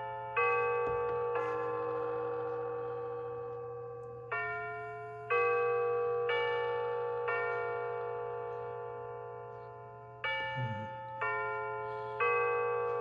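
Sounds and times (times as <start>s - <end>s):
clock chime bell melody: 0.0s - 13.0s.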